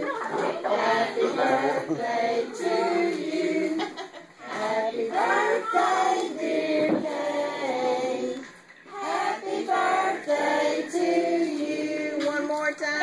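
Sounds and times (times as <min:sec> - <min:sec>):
children and women singing: 0:00.0 - 0:12.9.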